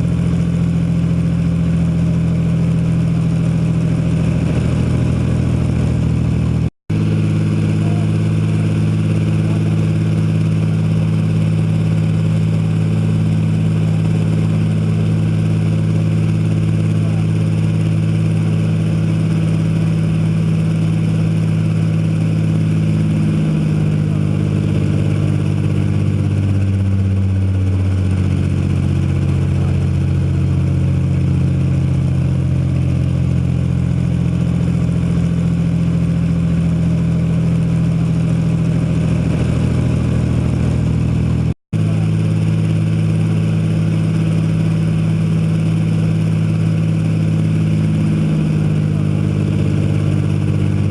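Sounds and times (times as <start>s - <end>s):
aero engine running loudly: 0.0s - 50.9s.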